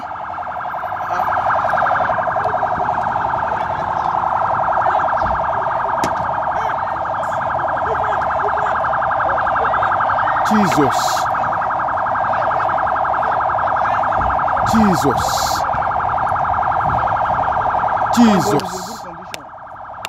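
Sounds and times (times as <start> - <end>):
electronic alarm pulsing tone: 0.0 - 20.0.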